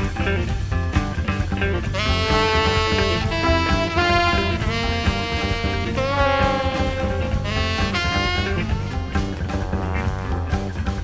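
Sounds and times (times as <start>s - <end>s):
bass: 0.0s - 11.0s
drums: 0.0s - 11.0s
guitar: 0.0s - 11.0s
horns: 1.8s - 11.0s.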